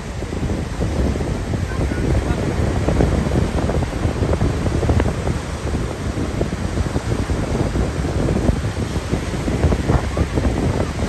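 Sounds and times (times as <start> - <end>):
surf breaking and washing: 0.0 - 11.0
wind buffeting microphone: 0.0 - 11.0.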